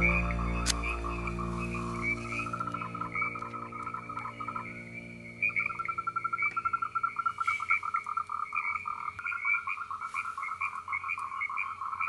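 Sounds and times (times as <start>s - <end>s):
frogs calling in a chorus: 0.0s - 12.0s.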